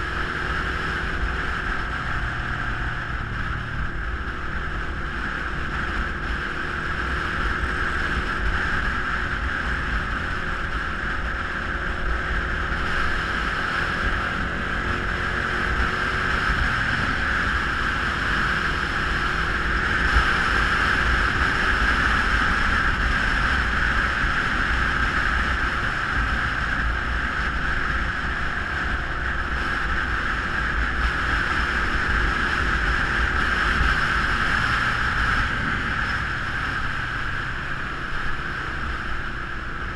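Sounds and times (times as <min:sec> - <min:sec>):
wind rush over microphone: 0:00.0 - 0:39.9.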